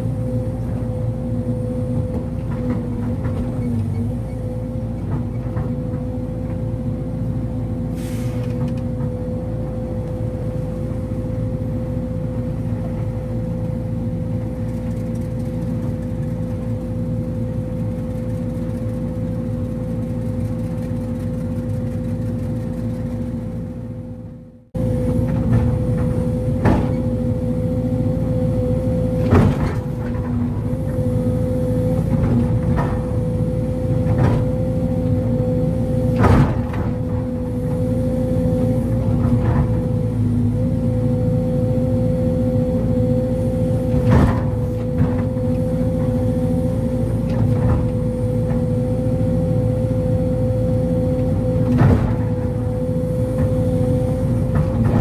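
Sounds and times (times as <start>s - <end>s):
constant whine: 0.0s - 55.0s
excavator diesel engine running: 0.0s - 55.0s.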